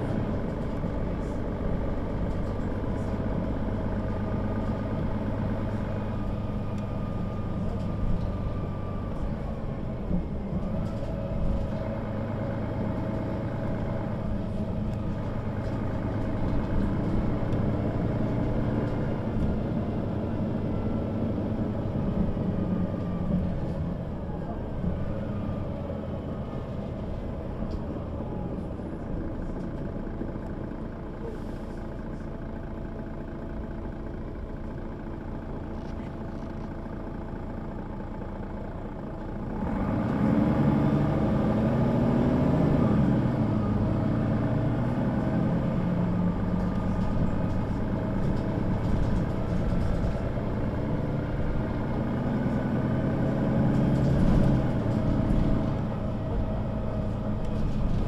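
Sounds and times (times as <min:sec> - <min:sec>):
bus engine accelerating: 0:00.0 - 0:58.0.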